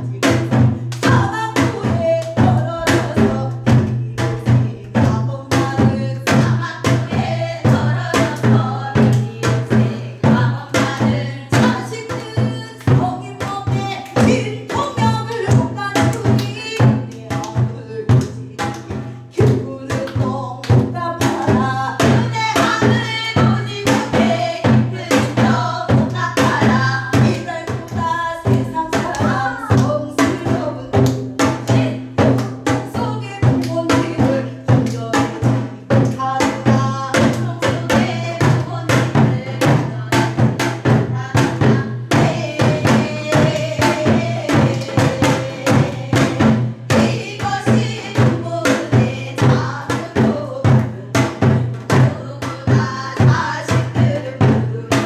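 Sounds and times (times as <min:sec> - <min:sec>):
backing track drum beat: 0:00.0 - 0:55.0
women singing together: 0:00.0 - 0:55.0.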